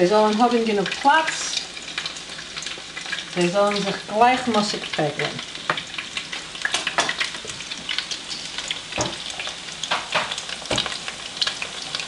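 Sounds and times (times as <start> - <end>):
dough deep-frying in hot oil: 0.0 - 12.0
oil popping: 0.9 - 12.0.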